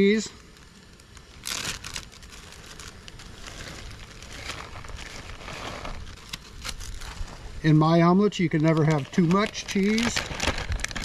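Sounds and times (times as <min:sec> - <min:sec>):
plastic bags crinkling: 0:00.0 - 0:07.5, 0:08.5 - 0:11.0.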